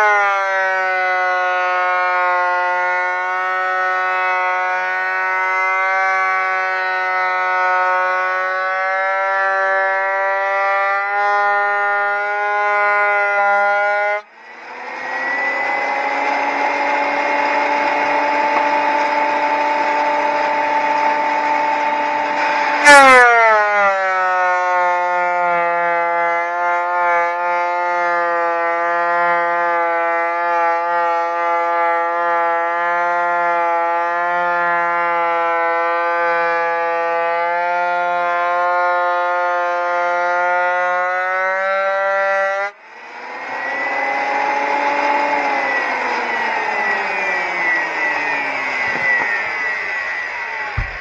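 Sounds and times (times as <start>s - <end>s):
planer whining: 0.0s - 51.0s.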